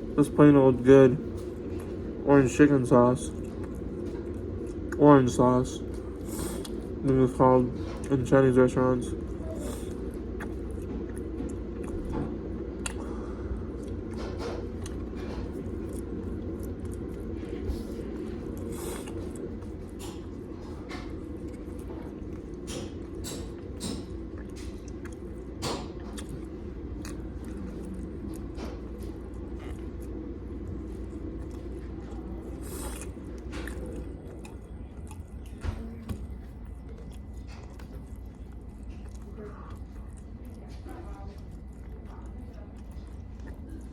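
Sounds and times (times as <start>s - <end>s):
person chewing food: 0.0s - 8.2s, 9.1s - 43.9s
steady low hum: 0.0s - 43.9s.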